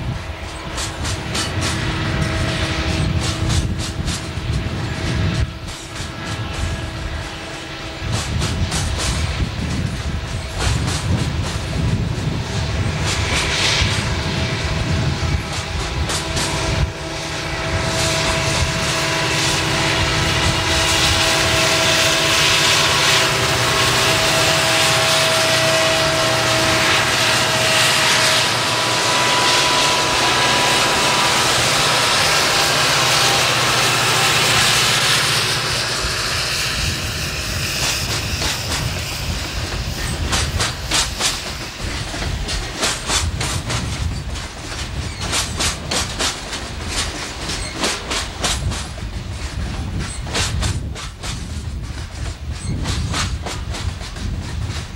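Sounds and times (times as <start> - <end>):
diesel locomotive engine rumble: 0.0 - 54.9
train wheels clicking over rail joints: 0.0 - 54.9.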